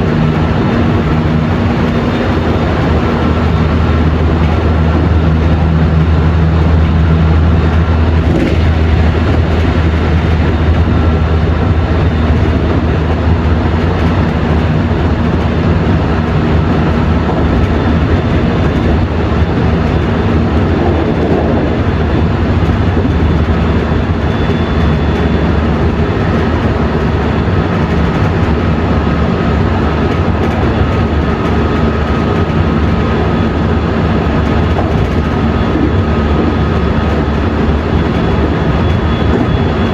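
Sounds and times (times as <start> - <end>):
train wheels and motors rumbling: 0.0 - 39.9.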